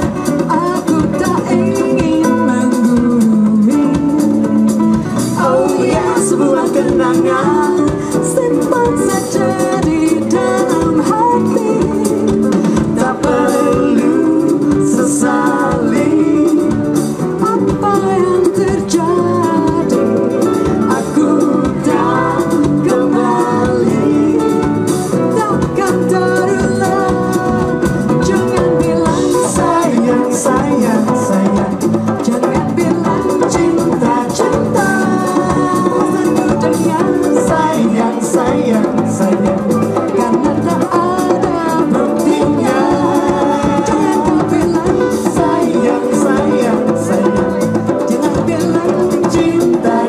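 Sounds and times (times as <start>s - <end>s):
bass guitar: 0.0s - 50.0s
electric guitar: 0.0s - 50.0s
hand drums: 0.0s - 50.0s
live band playing jazzy dance music: 0.0s - 50.0s
person singing: 0.0s - 50.0s.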